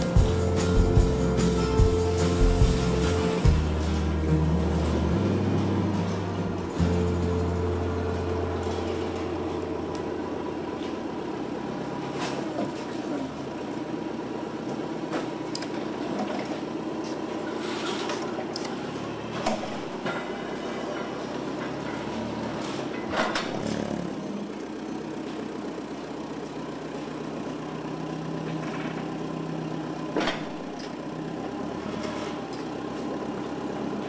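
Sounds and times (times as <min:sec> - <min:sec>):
machinery humming: 0:00.0 - 0:34.0.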